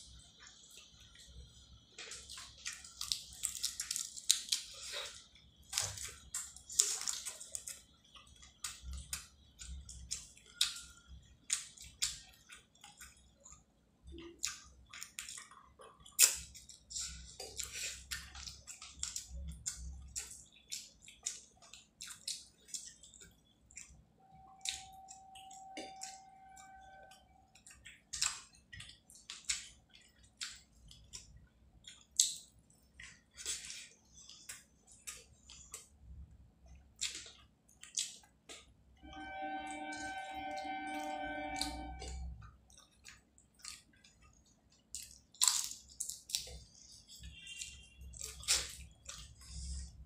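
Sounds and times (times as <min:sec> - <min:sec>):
wet chewing and mouth clicks: 0:00.3 - 0:38.7, 0:41.6 - 0:50.0.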